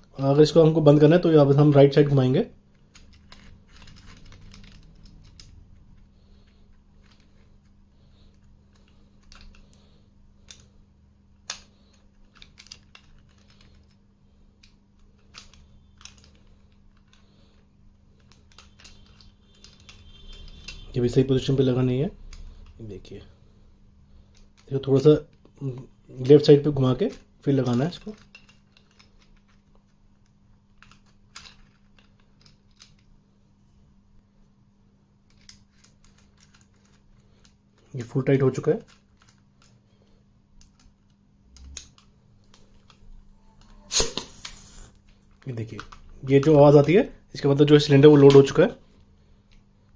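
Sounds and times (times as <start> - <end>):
steady low hum: 0.0 - 47.5
allen key metallic clicks and scrapes: 2.7 - 10.8, 11.4 - 25.6, 26.2 - 33.2, 35.3 - 47.1.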